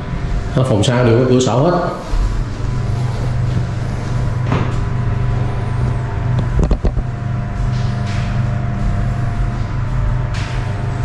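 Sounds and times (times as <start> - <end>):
low engine hum: 1.9 - 11.0.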